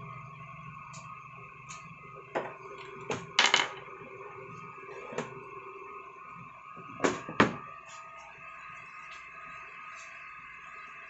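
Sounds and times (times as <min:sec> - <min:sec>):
computer humming: 0:00.0 - 0:11.0.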